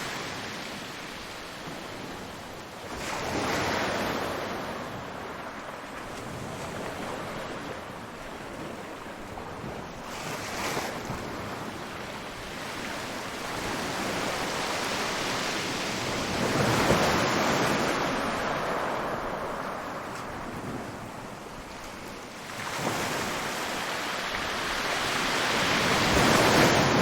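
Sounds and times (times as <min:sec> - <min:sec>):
waves breaking: 0:00.0 - 0:27.0.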